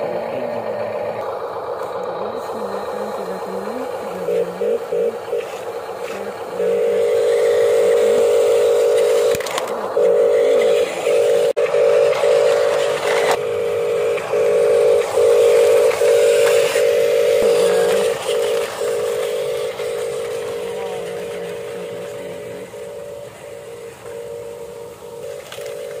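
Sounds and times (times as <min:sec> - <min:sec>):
toy truck electric motor whining: 0:00.0 - 0:26.0.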